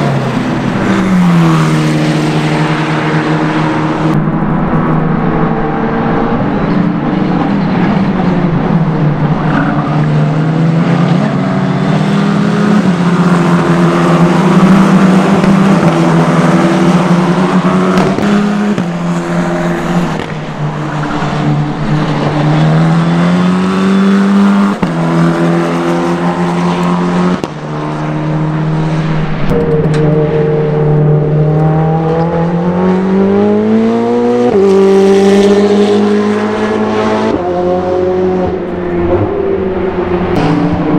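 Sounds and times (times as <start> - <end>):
racing car engines accelerating: 0.0 - 40.9.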